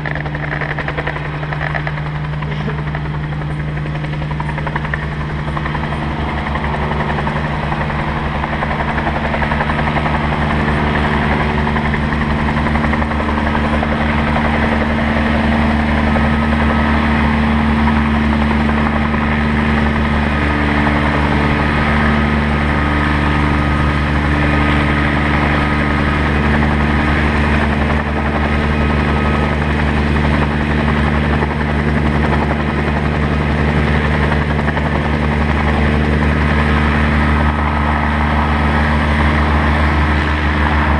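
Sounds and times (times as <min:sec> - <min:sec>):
helicopter engine and rotor droning: 0:00.0 - 0:40.9.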